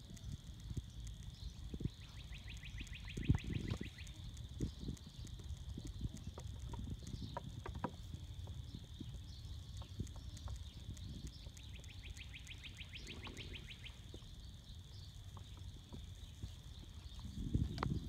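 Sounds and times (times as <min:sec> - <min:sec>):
steady high-pitched hum: 0:00.0 - 0:18.0.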